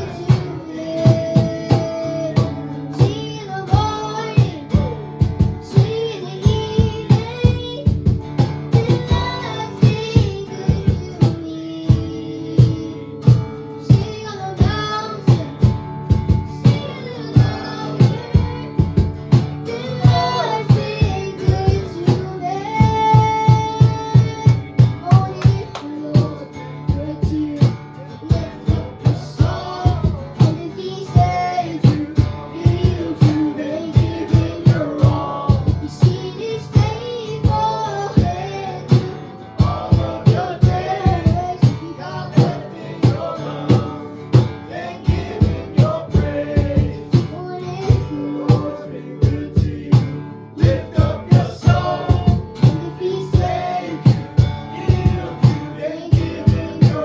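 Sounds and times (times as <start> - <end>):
guitar: 0.0 - 57.0
steady drum beat: 0.0 - 57.0
voices singing: 0.0 - 57.0.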